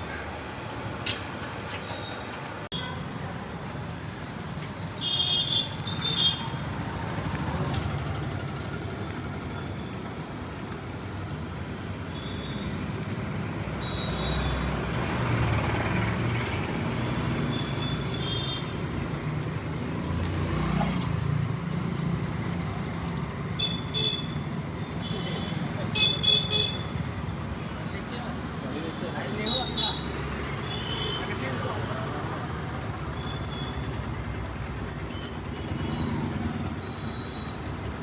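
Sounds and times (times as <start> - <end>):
passing traffic: 0.0 - 38.0.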